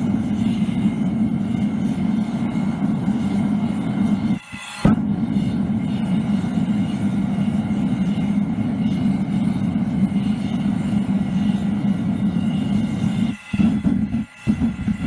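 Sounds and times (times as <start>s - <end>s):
burner rushing rumble: 0.0s - 15.0s.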